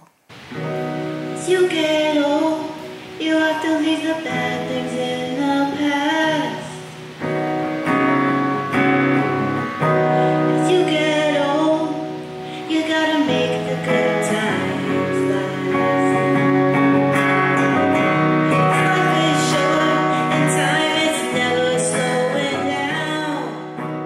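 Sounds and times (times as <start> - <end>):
person singing: 0.0 - 24.0
acoustic guitar strumming: 0.3 - 24.0.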